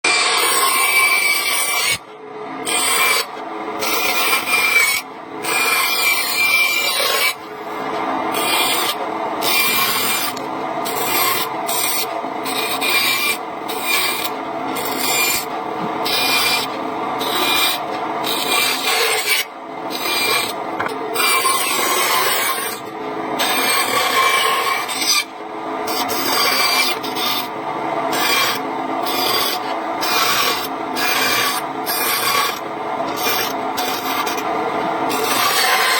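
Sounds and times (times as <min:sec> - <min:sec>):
saw cutting wood: 0:00.1 - 0:25.3, 0:25.9 - 0:27.5, 0:28.1 - 0:34.5, 0:35.1 - 0:35.9.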